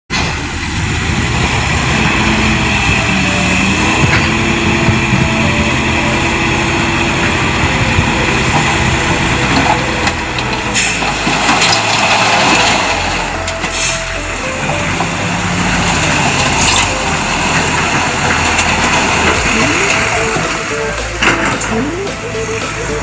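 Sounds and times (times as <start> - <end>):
diesel earthmoving machinery: 0.1 - 23.0.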